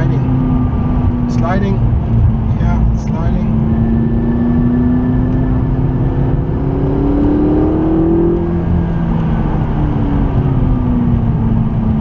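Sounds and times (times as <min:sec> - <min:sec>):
car engine accelerating: 0:00.0 - 0:12.0
road and tyre noise: 0:00.0 - 0:12.0.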